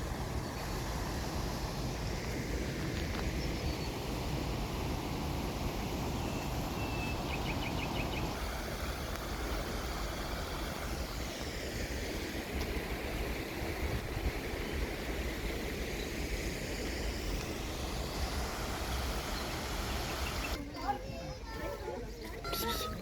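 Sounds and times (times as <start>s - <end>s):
stream water rushing: 0.0s - 20.6s.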